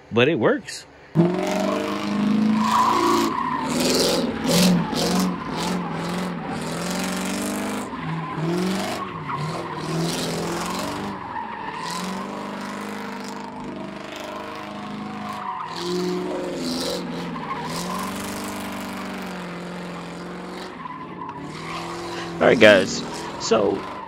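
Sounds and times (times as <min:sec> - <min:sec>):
car engine revving: 0:01.1 - 0:24.0
tires skidding and squealing: 0:01.1 - 0:24.0.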